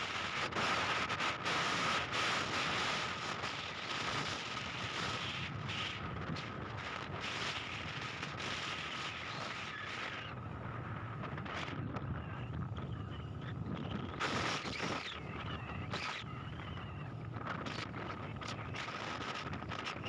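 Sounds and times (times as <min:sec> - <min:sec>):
thin steady whine: 0:00.0 - 0:20.0
wind buffeting microphone: 0:00.0 - 0:20.0.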